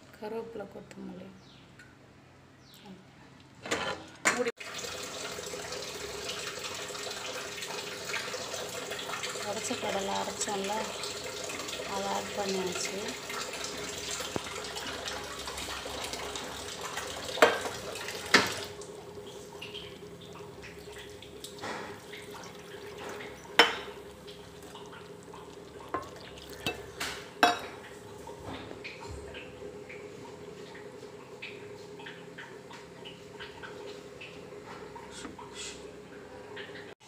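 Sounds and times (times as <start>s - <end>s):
curry bubbling in a pan: 4.6s - 34.4s.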